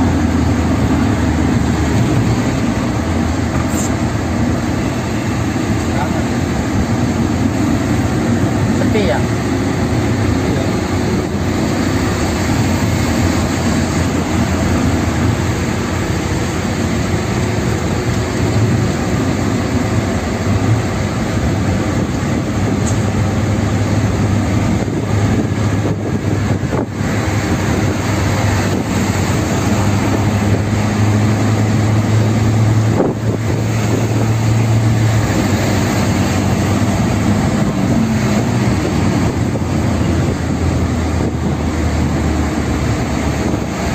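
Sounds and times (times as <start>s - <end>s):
car engine drone: 0.0s - 43.9s
tyre and road noise: 0.0s - 43.9s.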